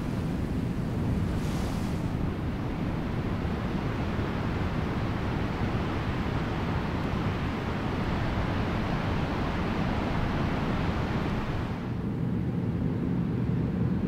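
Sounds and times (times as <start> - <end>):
sea: 0.0 - 14.0
wind: 0.0 - 14.0.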